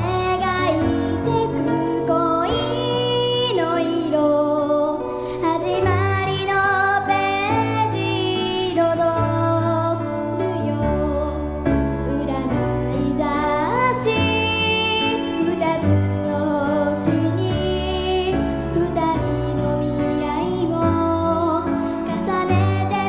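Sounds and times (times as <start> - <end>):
girl singing: 0.0 - 23.0.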